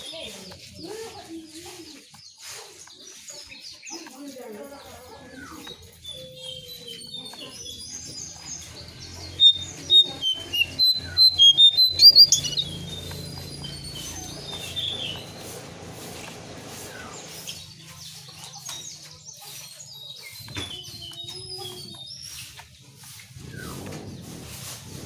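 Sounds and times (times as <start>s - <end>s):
bird chirping and twittering: 0.0s - 25.0s.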